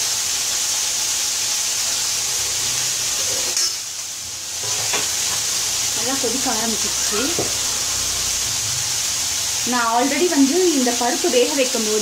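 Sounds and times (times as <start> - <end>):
vegetables sizzling in pans: 0.0 - 12.0.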